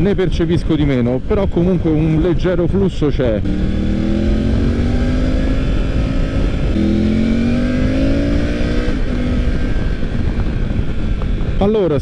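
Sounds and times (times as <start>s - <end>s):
motorcycle engine accelerating: 0.0s - 12.0s
wind noise: 0.0s - 12.0s.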